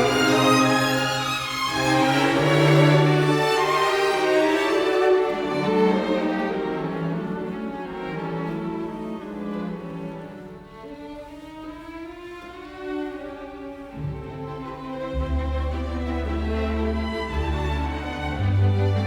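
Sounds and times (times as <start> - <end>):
bowed strings sustained notes: 0.0 - 10.9, 13.6 - 19.0.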